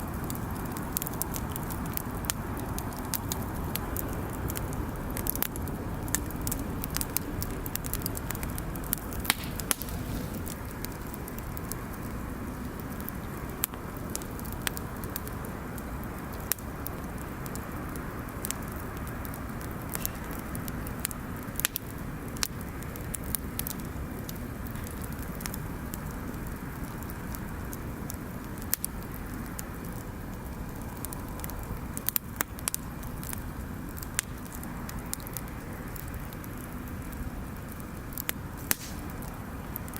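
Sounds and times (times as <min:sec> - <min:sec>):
bonfire pops and snaps: 0:00.0 - 0:39.9
low rush of fire: 0:00.0 - 0:39.9.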